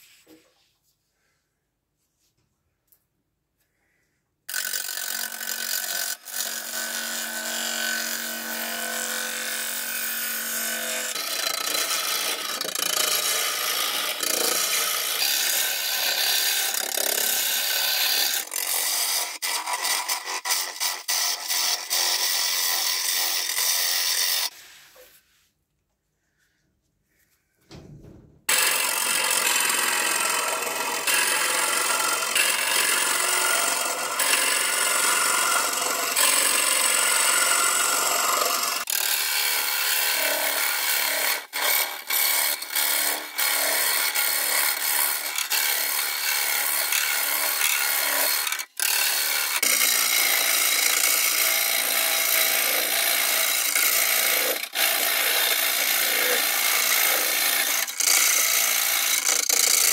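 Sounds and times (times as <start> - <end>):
lathe tool shaving wood: 4.5 - 24.8, 28.5 - 59.9.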